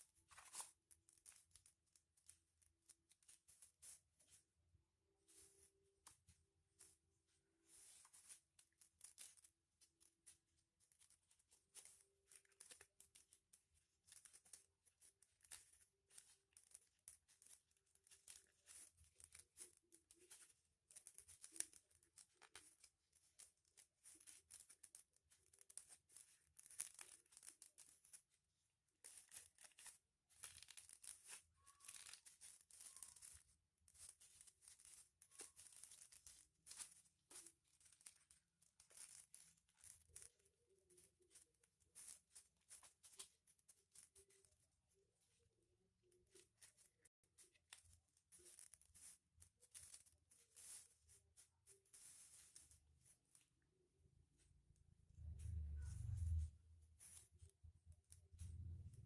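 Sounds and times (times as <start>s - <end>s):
foil paper crinkling: 0.0s - 4.6s, 5.2s - 53.6s.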